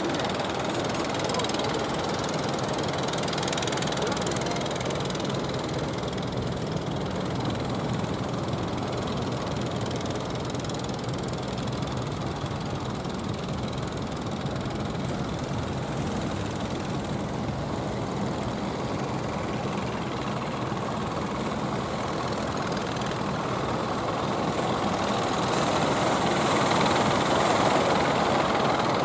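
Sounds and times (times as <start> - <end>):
boat engines running: 0.0 - 29.0
wind: 0.0 - 29.0.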